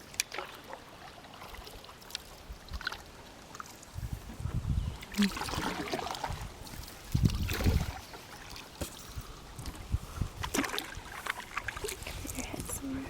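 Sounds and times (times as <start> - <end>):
paddle splashing in water: 0.0 - 12.8.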